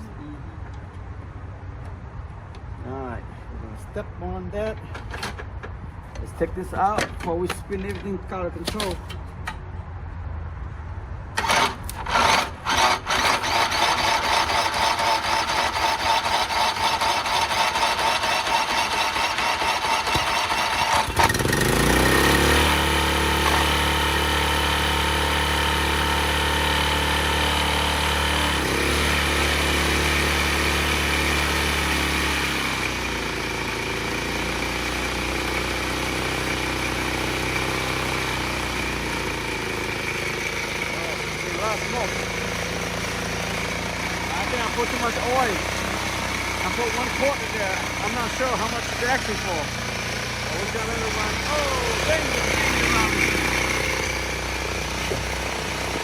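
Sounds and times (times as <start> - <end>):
lawn mower engine cranking and running: 4.6 - 9.9, 11.3 - 56.0.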